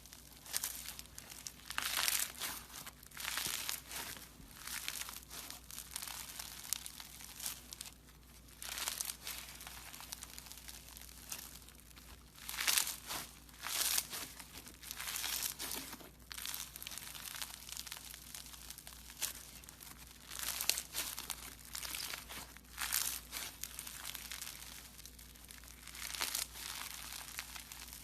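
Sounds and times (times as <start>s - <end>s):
crisp crunching and crinkling: 0.0s - 28.0s
quiet crackling: 0.0s - 28.0s.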